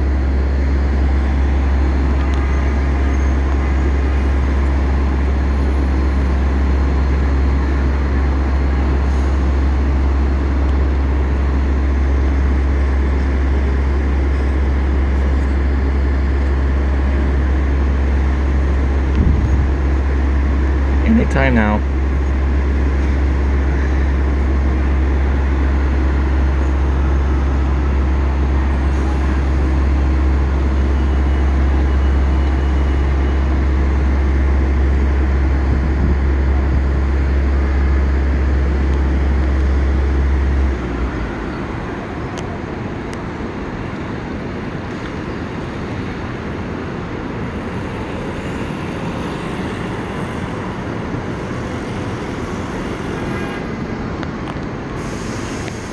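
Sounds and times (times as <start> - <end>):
loud low hum: 0.0 - 55.9
street traffic: 0.0 - 55.9.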